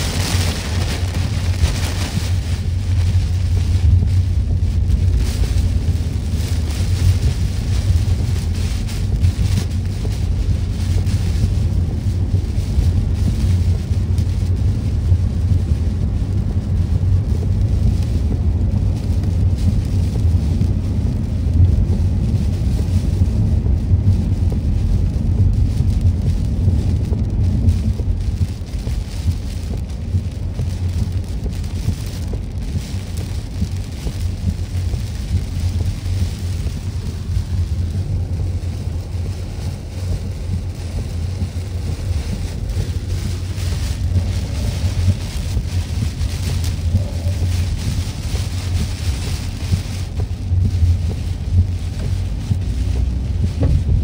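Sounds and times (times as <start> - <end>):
heavy rain on car: 0.0 - 54.0
tyre and road noise: 0.0 - 54.0.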